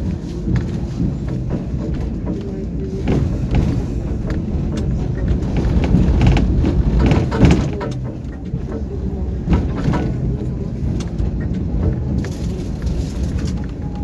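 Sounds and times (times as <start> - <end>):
clanks and knocks: 0.0 - 14.0
tram rumbling on rails: 0.0 - 14.0.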